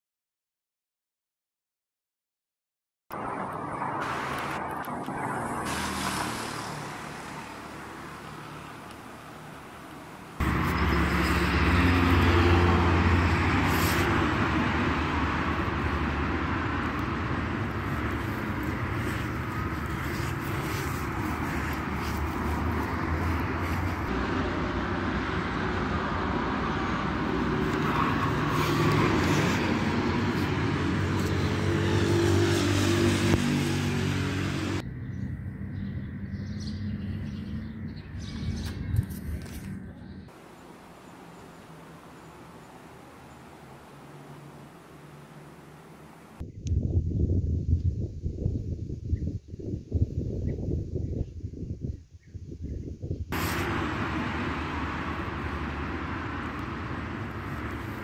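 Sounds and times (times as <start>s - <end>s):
car road and engine rumble: 3.1s - 46.4s, 53.3s - 58.0s
quiet outdoor background: 3.1s - 58.0s.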